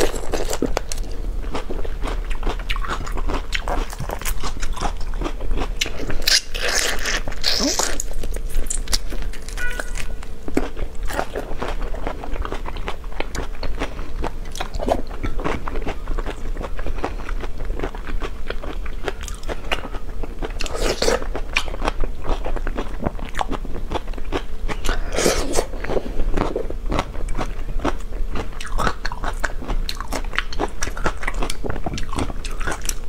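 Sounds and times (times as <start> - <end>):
crunching and chewing clicks: 0.0 - 33.0.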